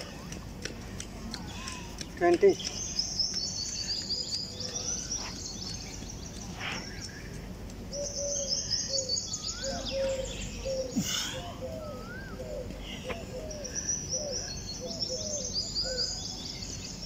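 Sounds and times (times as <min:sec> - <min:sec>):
background hiss: 0:00.0 - 0:17.0
birds chirping: 0:00.0 - 0:17.0
low bird calls: 0:00.0 - 0:17.0.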